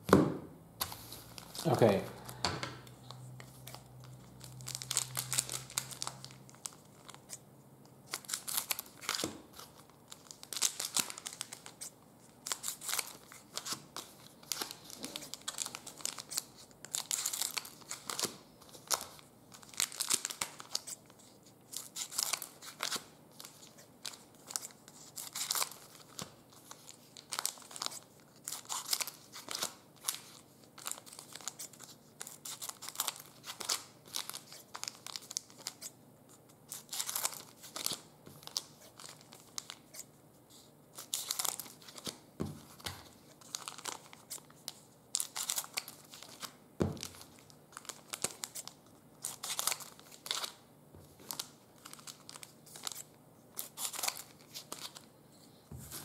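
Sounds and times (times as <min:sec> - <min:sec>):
wrappers crinkling and tearing: 0:03.0 - 0:07.4, 0:08.0 - 0:35.9, 0:36.7 - 0:40.1, 0:40.9 - 0:50.6, 0:51.2 - 0:55.1.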